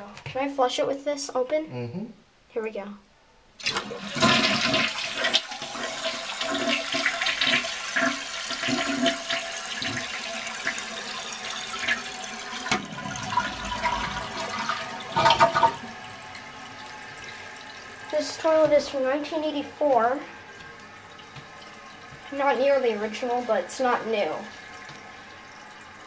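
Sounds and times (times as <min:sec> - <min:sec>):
toilet flushing: 0:03.6 - 0:26.0.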